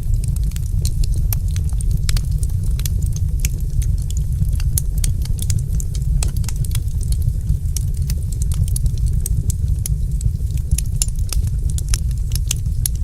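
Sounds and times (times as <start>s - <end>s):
fire popping and snapping: 0.0s - 13.0s
low fire rumble: 0.0s - 13.0s
wood fire crackling: 0.0s - 13.0s.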